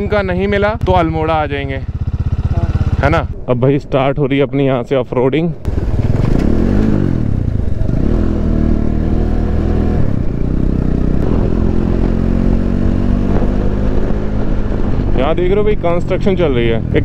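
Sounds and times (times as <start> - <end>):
motorcycle engine revving: 0.0 - 3.4, 5.7 - 17.0.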